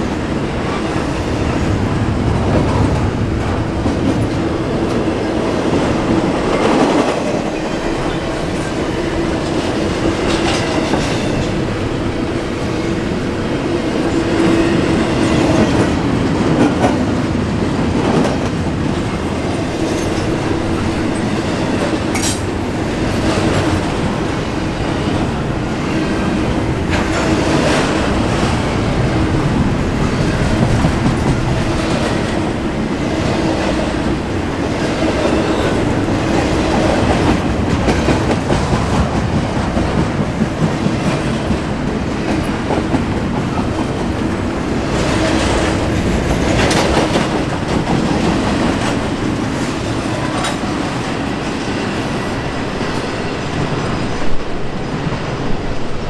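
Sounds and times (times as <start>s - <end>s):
train wheels clacking over rail joints: 0.1s - 11.8s, 13.6s - 53.1s.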